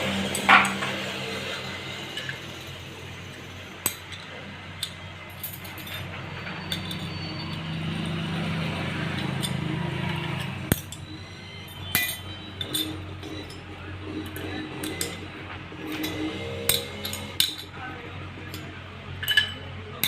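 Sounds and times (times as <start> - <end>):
metal tools clinking: 0.0 - 20.0.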